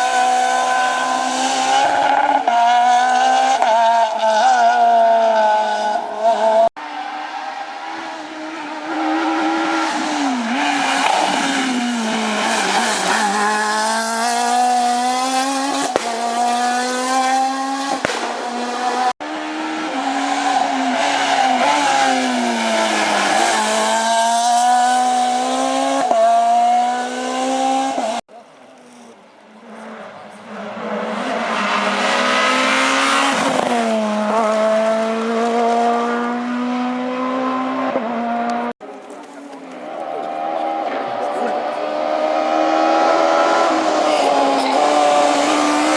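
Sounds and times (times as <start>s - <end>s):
rally car engine revving: 0.0s - 28.2s, 29.0s - 38.8s, 39.6s - 45.9s.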